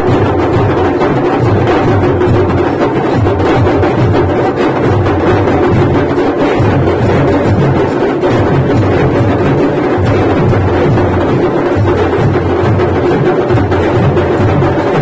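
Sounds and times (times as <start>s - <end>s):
large drums beaten fast: 0.0s - 15.0s.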